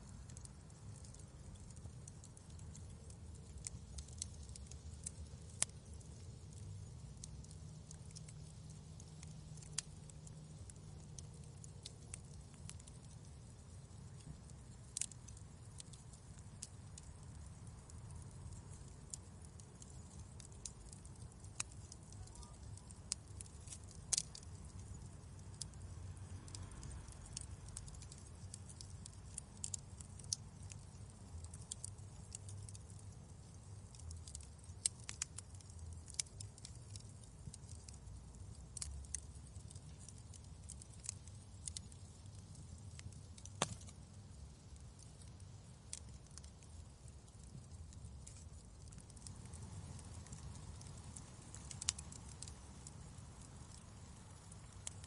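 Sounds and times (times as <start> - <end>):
burning fire rumble: 0.0 - 55.0
fire popping and snapping: 0.0 - 55.0.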